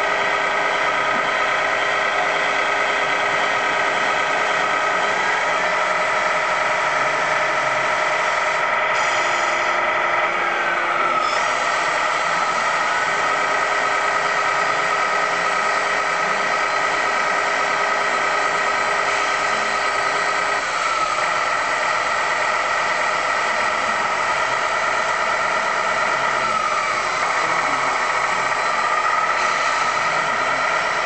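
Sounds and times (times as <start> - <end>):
model trucks motor hum and whine: 0.0 - 31.0.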